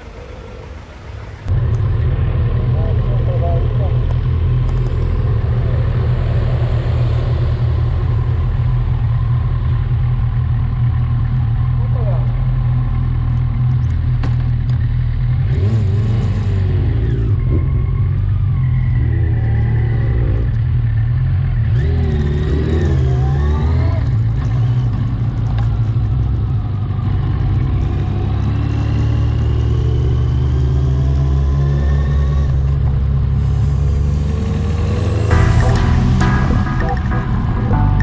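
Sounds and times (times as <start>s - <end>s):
vehicle engine and road rumble: 0.0s - 38.0s.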